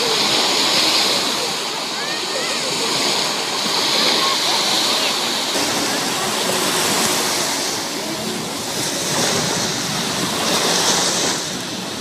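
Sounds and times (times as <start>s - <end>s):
small waves breaking: 0.0s - 12.0s.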